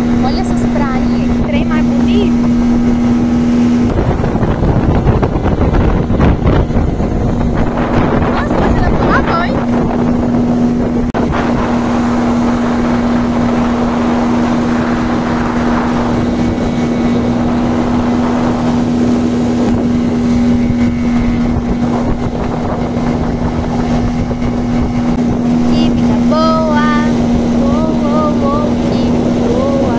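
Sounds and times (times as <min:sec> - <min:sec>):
outboard motor running: 0:00.0 - 0:29.9
water rushing along a hull: 0:00.0 - 0:29.9
wind on the microphone: 0:00.0 - 0:29.9.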